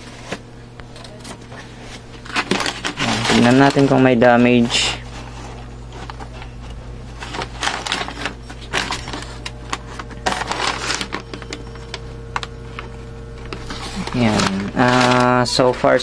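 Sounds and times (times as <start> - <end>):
paper rustling: 0.0 - 0.4, 1.0 - 16.0
steady low hum: 0.0 - 16.0.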